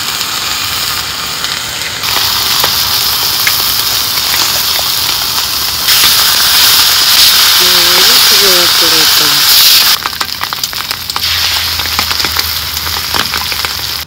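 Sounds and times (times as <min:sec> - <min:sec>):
ham sizzling on a griddle: 0:00.0 - 0:14.0.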